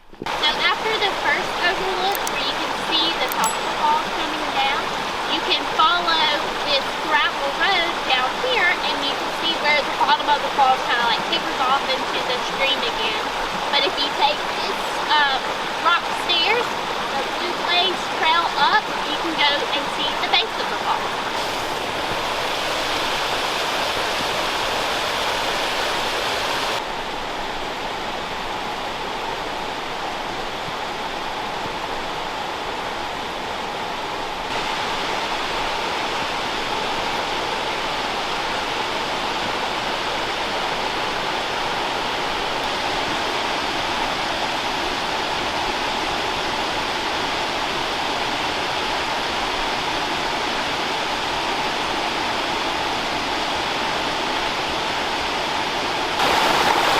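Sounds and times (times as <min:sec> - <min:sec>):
waterfall rushing over rock: 0:00.2 - 0:56.9.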